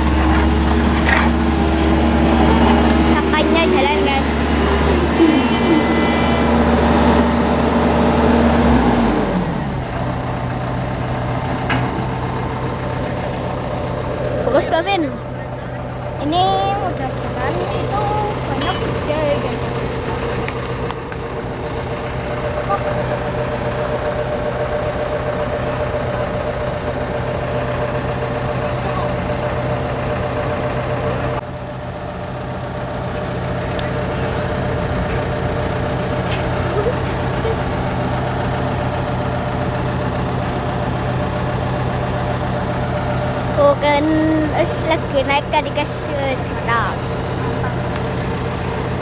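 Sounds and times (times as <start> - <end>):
heavy diesel engines running: 0.0 - 49.0.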